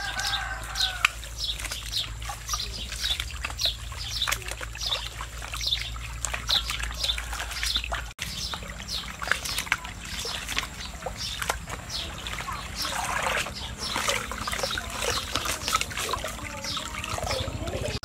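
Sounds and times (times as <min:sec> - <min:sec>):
birds chirping: 0:00.0 - 0:18.0
water sloshing and splashing: 0:00.0 - 0:18.0.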